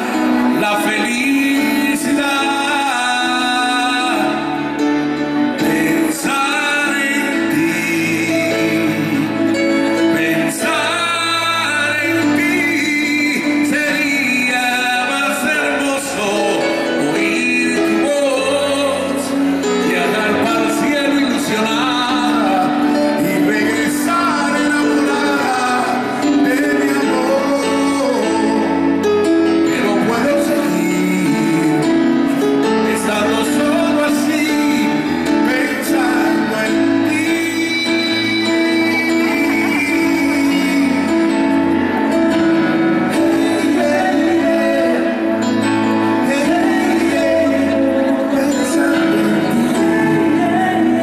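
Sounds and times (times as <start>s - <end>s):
live band playing a ballad: 0.0s - 51.0s
man singing: 0.0s - 51.0s.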